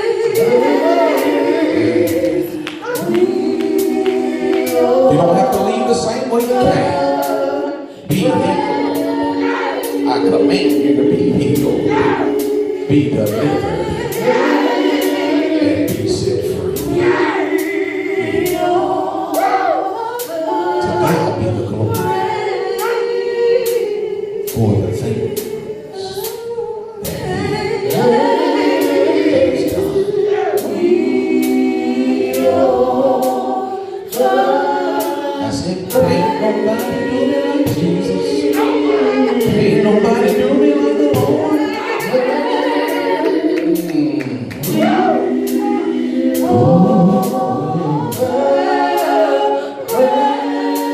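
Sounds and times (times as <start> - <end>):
sharp percussive strokes: 0.0 - 24.7, 27.0 - 50.9
gospel choir singing: 0.0 - 50.9.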